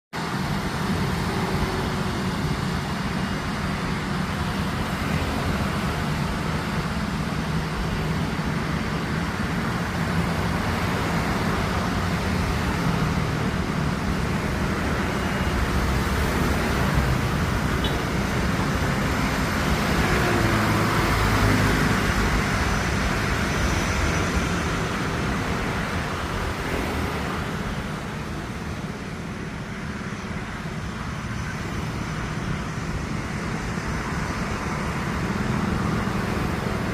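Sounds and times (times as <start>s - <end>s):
airliner engines rumbling: 0.2s - 36.9s.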